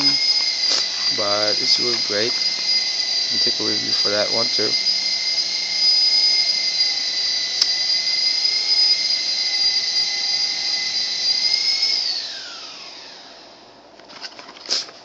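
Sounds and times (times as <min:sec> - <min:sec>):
small motor whining: 0:00.0 - 0:13.6.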